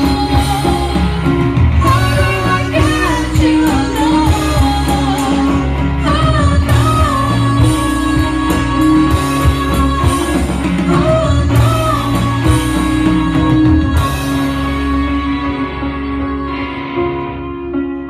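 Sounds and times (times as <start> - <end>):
bass line: 0.0 - 18.0
person singing: 0.0 - 18.0
rock music: 0.0 - 18.0.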